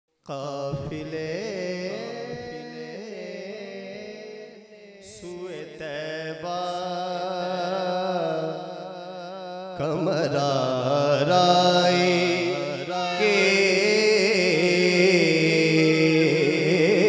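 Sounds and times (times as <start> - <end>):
man singing unaccompanied: 0.2 - 17.0.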